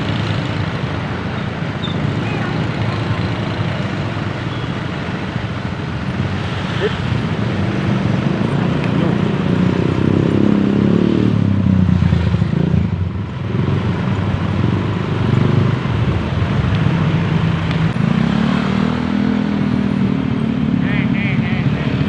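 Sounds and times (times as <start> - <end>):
vehicle engines on road: 0.0 - 22.0.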